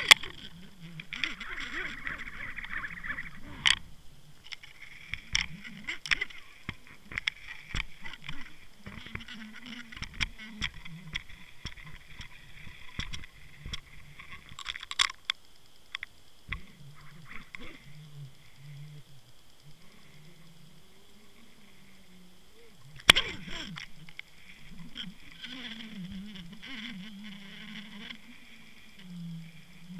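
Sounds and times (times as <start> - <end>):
faint low hum: 0.0 - 29.9
underwater clicks and ticks: 0.0 - 29.9.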